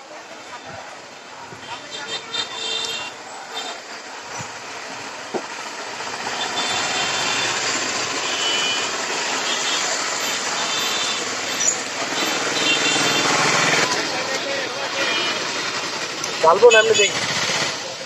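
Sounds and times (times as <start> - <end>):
street traffic rush: 0.0 - 18.0.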